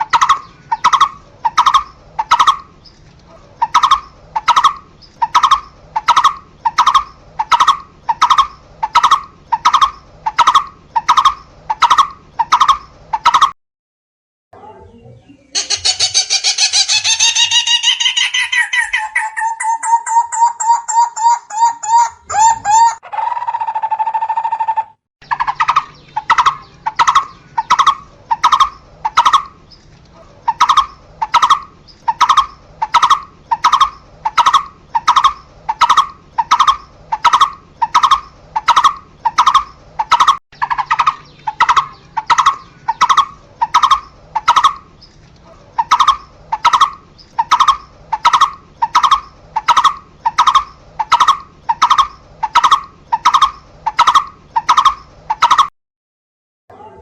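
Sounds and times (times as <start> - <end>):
barbet calling: 0.0 - 2.7, 3.6 - 13.5, 14.8 - 29.6, 30.5 - 45.0, 45.8 - 55.7.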